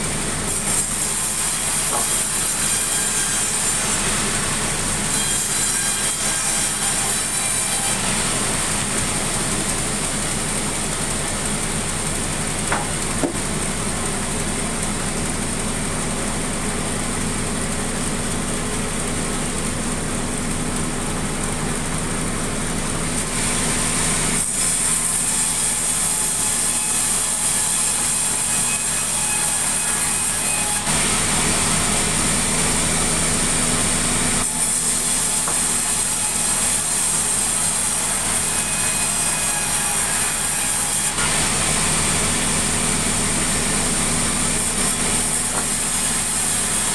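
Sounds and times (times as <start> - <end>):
sawmill saw whining: 0.0 - 46.9.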